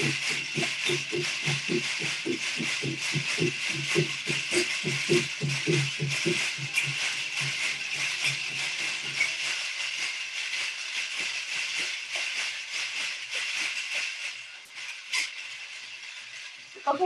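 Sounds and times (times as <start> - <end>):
recorded song with drumbeat: 0.0 - 15.3
metal jingle cones clinking: 0.0 - 17.0.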